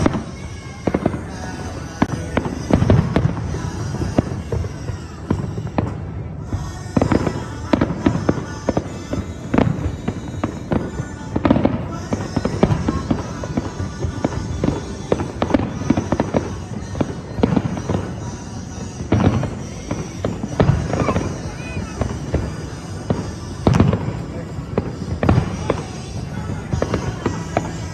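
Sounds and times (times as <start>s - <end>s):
fireworks bangs and crackling: 0.0s - 27.9s.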